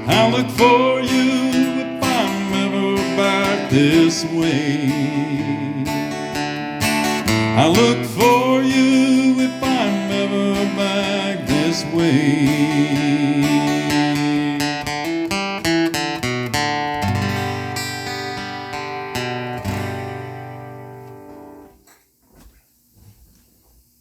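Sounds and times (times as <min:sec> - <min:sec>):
acoustic guitar playing: 0:00.0 - 0:21.9.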